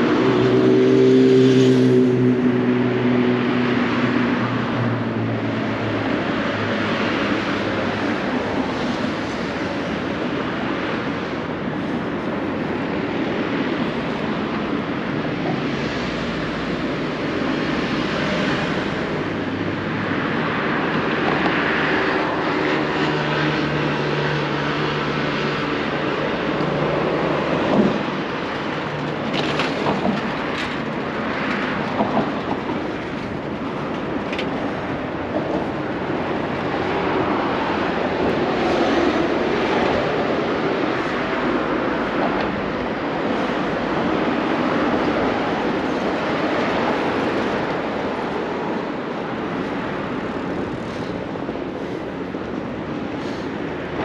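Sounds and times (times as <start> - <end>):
engine hum: 0.0 - 54.0
vehicles passing: 0.0 - 54.0.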